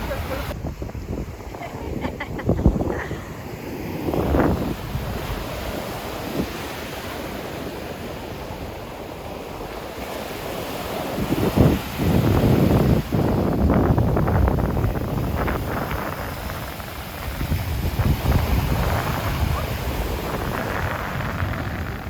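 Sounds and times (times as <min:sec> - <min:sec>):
surf washing on a beach: 0:00.0 - 0:22.0
wind buffeting the microphone: 0:00.0 - 0:22.0.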